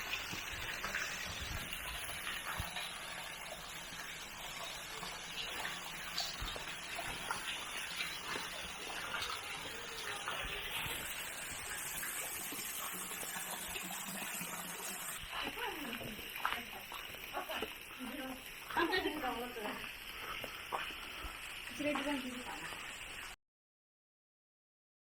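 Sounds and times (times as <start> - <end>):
flowing water rushing: 0.0 - 23.4.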